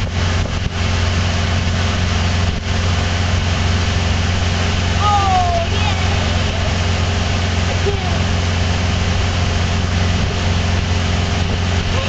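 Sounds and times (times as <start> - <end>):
outboard motor drone: 0.0 - 12.0
water rushing and churning: 0.0 - 12.0.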